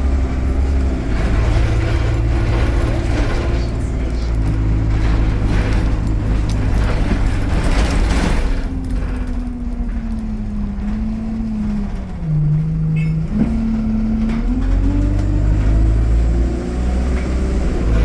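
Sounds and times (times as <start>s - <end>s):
bus diesel engine: 0.0s - 18.0s.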